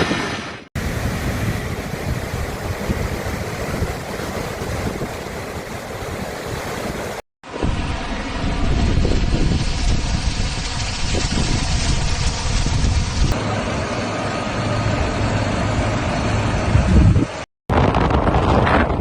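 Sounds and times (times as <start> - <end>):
floodwater rushing: 0.0 - 16.7
wind: 0.0 - 19.0
vehicle engine humming: 0.8 - 17.4.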